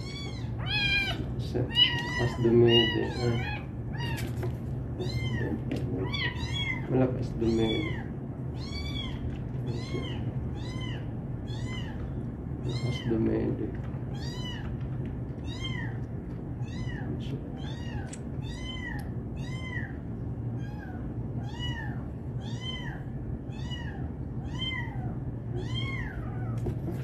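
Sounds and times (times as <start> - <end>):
kitten mewing: 0.0 - 4.4, 5.0 - 13.1, 16.6 - 20.0, 20.6 - 27.0
steady low hum: 0.0 - 27.0.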